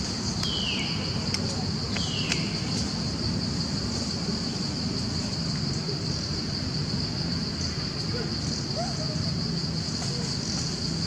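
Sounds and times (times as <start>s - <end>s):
high-pitched insect chorus: 0.0s - 11.0s
low rumbling background noise: 0.0s - 11.0s.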